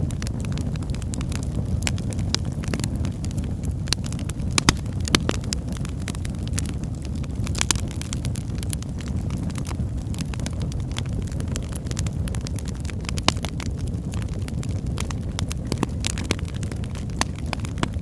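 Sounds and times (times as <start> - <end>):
low rumble of burning: 0.0 - 18.0
sharp pops of fire: 0.0 - 18.0
wood fire crackling: 0.0 - 18.0.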